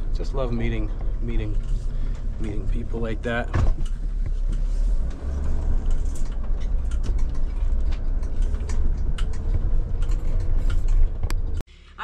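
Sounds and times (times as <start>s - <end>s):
road and engine rumble in van: 0.0s - 12.0s
light clicks and rattles: 0.4s - 11.6s.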